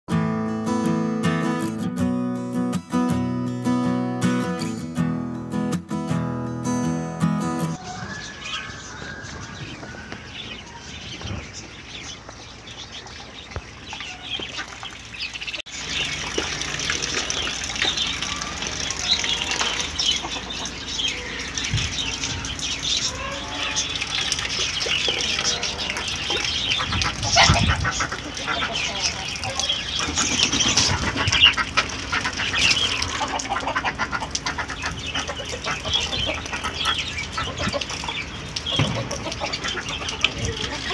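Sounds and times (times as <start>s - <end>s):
chickens clucking: 7.8s - 40.9s.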